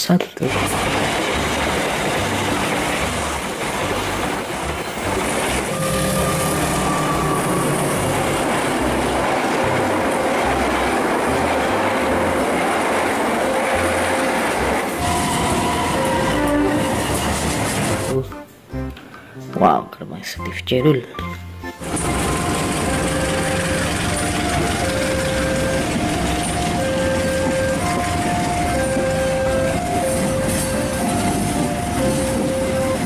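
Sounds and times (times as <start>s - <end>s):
train wheels rushing on rails: 0.5s - 18.3s, 21.8s - 33.0s.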